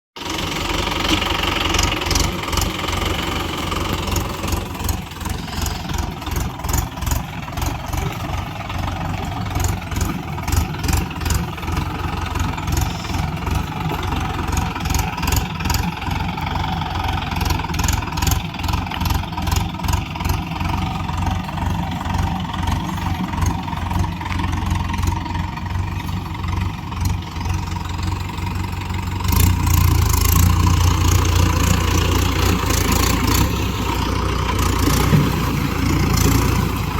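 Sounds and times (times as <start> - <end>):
tractor diesel engine under load: 0.1 - 36.9.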